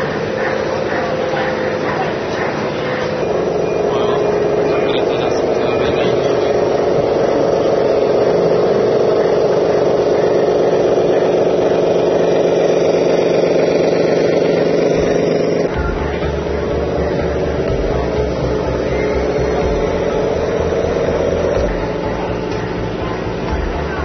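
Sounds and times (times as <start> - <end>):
low hum: 0.0 - 24.0
toy truck engine-like drone: 0.0 - 24.0.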